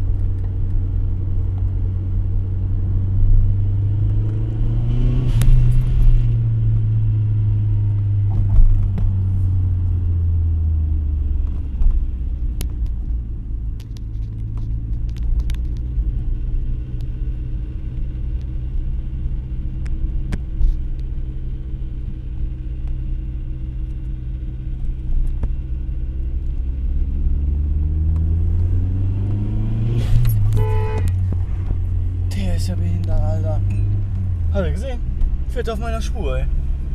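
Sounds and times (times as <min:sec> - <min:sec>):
car engine from inside cabin: 0:00.0 - 0:36.9.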